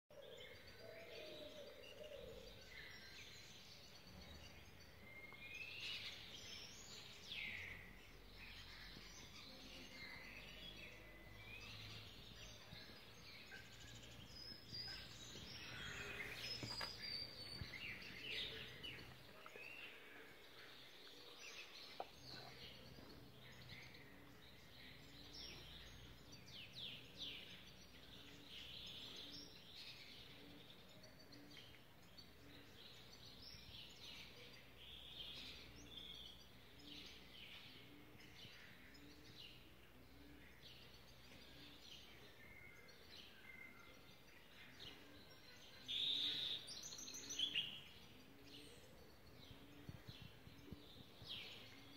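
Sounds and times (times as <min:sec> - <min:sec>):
small birds chirping: 0:00.1 - 0:51.9.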